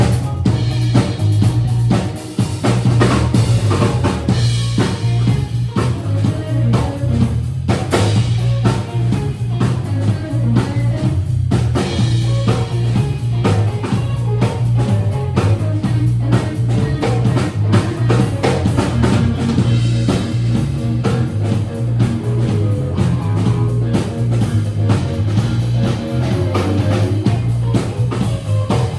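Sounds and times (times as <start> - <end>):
drum kit: 0.0 - 28.9
electric guitar: 0.0 - 28.9.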